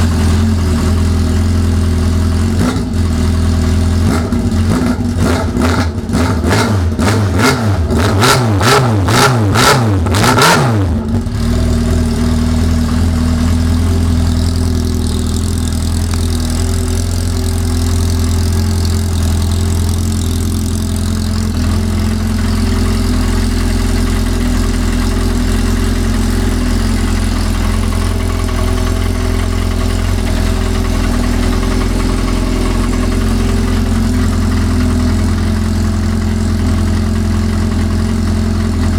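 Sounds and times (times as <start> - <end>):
snowmobile engine revving and idling: 0.0 - 38.9.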